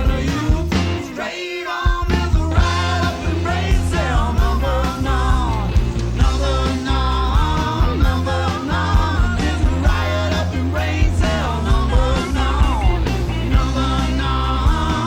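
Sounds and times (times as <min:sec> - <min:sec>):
rock band playing: 0:00.0 - 0:01.3, 0:01.9 - 0:15.0.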